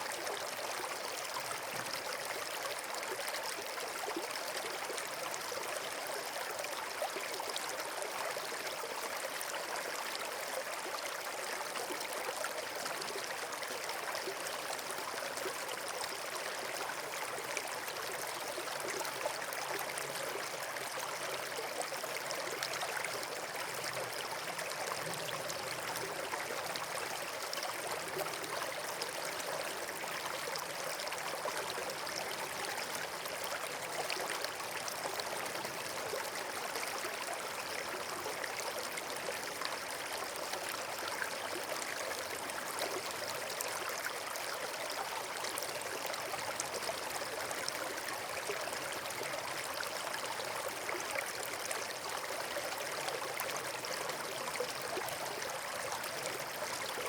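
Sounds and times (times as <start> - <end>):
water rushing and trickling: 0.0 - 57.0.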